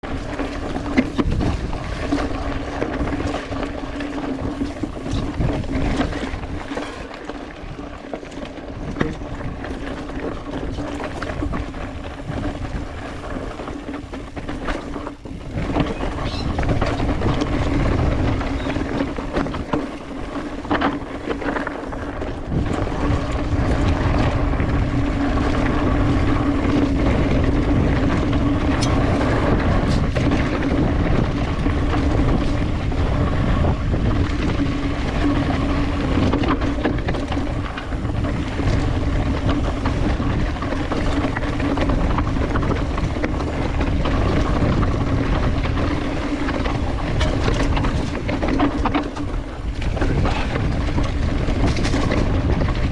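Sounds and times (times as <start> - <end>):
bike clicks and rattles: 0.0 - 52.9
bike tyre rumble: 0.0 - 52.9
wind buffeting microphone: 0.0 - 52.9.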